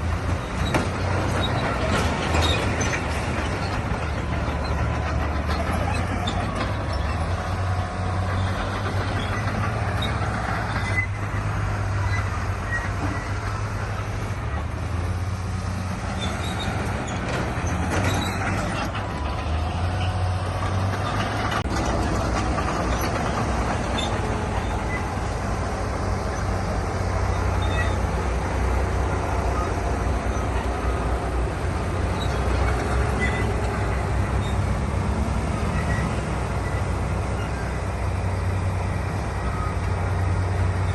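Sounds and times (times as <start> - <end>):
heavy diesel engine drone: 0.0 - 40.9.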